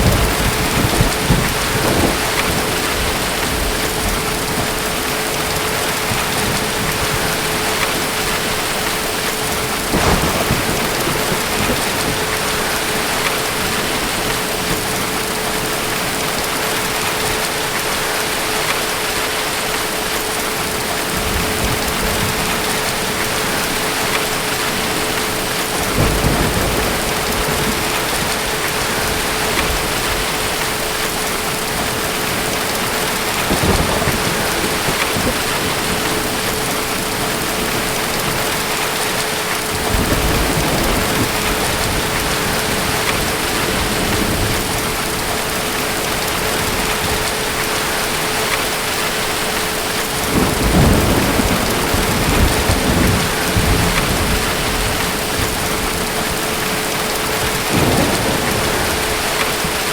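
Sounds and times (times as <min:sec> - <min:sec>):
distant thunder rumbling: 0:00.0 - 0:59.9
heavy rain: 0:00.0 - 0:59.9.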